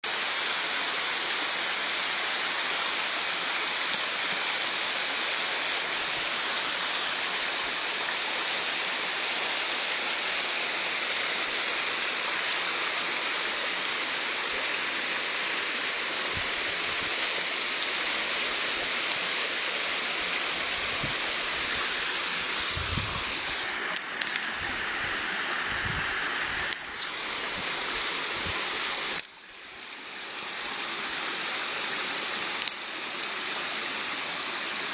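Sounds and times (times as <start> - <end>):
rushing water: 0.0 - 34.9.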